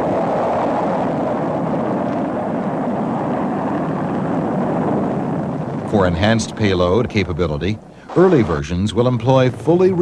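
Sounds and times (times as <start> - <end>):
rocket engines roaring: 0.0 - 10.0.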